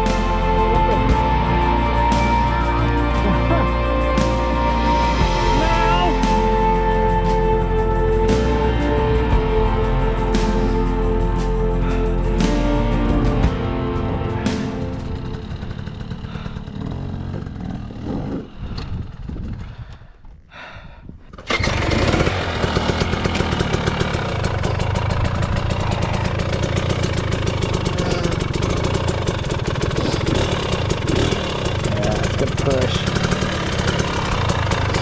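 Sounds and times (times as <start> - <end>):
dirt bike engine running: 0.0 - 19.9, 21.4 - 35.0.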